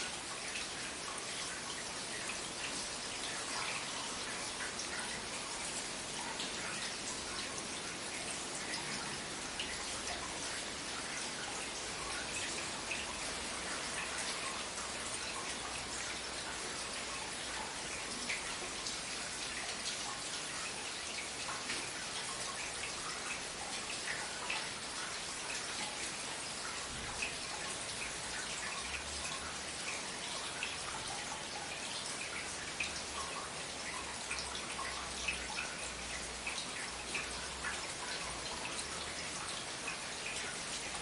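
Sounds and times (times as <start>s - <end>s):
rain drops dripping: 0.0s - 41.0s.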